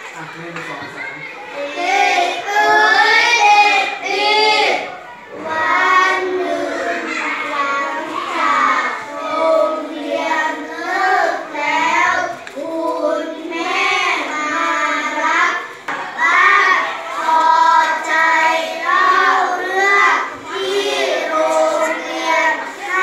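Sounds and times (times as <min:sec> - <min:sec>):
children chanting verse together: 0:01.4 - 0:23.0.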